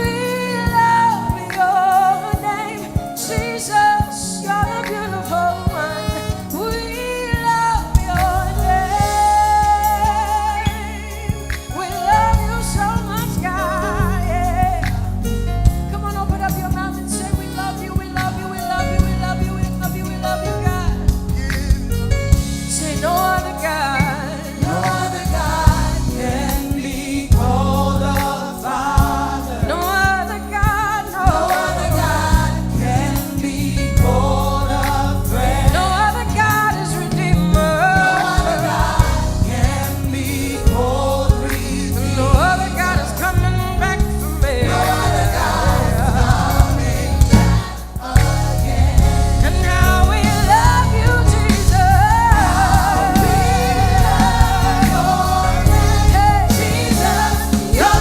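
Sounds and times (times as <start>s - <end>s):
band with bass and drums: 0.0s - 58.0s
group of singers with vibrato: 0.0s - 58.0s.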